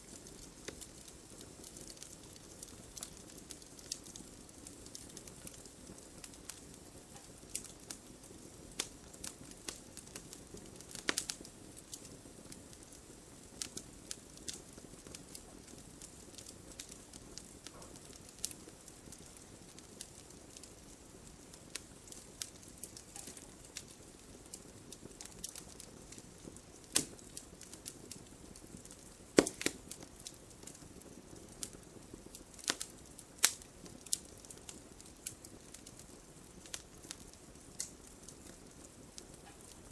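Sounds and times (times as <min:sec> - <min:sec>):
campfire crackling and popping: 0:00.0 - 0:39.9
flame hissing: 0:00.0 - 0:39.9.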